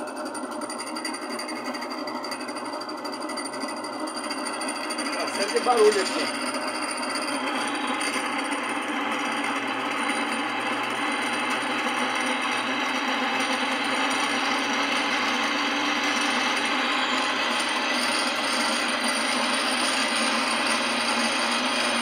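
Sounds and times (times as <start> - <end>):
spin dryer motor running: 0.0 - 22.0.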